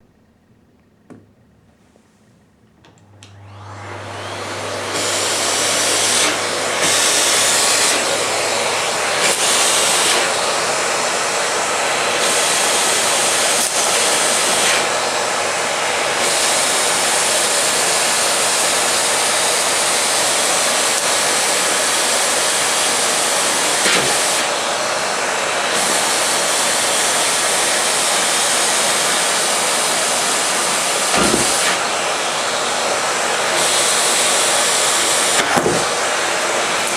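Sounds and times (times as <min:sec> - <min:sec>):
vacuum cleaner running: 0:01.8 - 0:36.9.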